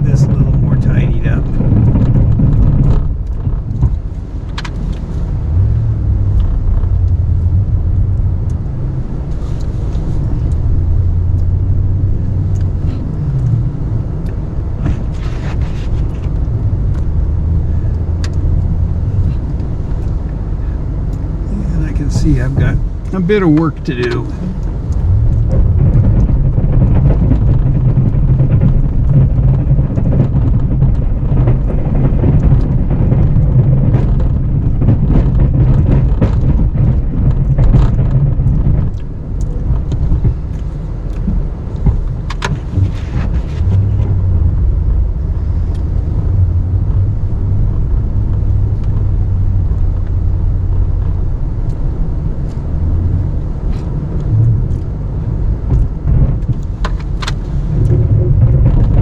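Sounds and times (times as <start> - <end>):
plow blade pushing snow: 0.0 - 51.4
truck engine under load: 0.0 - 59.0.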